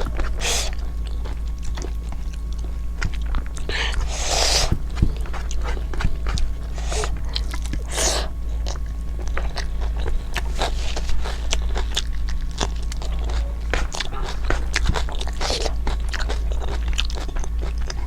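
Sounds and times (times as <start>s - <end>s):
chewing with wet smacking: 0.0s - 18.0s
low hum: 0.0s - 18.0s.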